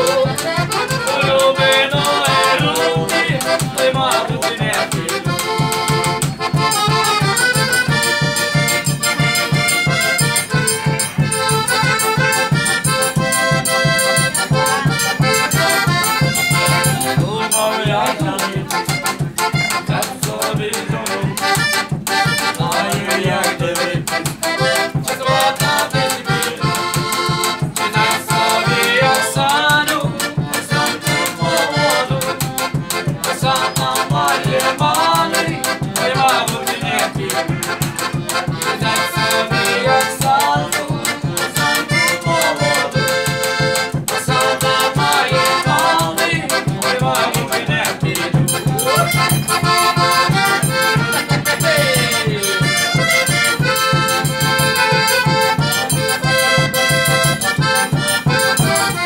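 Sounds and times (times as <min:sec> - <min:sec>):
upbeat folk accordion music: 0:00.0 - 0:59.0.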